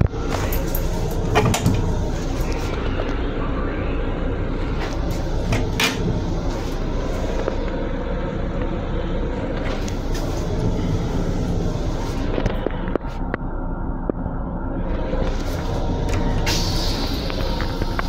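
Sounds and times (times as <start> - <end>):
railcar rumbling and rattling: 0.0 - 18.0.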